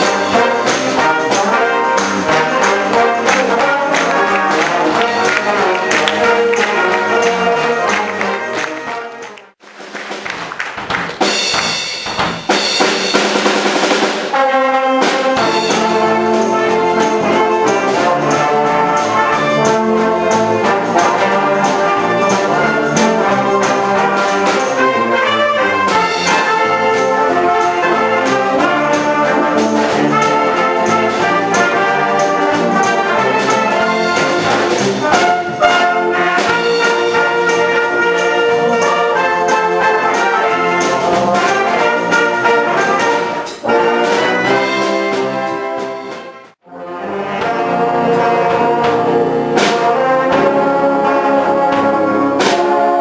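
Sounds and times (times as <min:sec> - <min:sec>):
cymbals: 0:00.0 - 0:10.1, 0:11.2 - 0:53.0
wind band playing rock and roll: 0:00.0 - 0:53.0.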